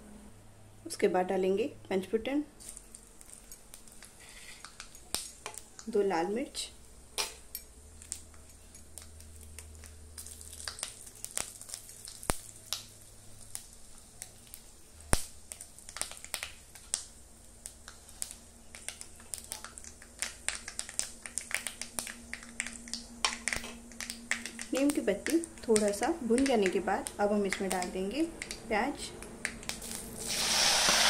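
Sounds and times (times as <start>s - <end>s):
low steady hum: 0.0s - 31.0s
spices crackling in hot oil: 2.6s - 31.0s.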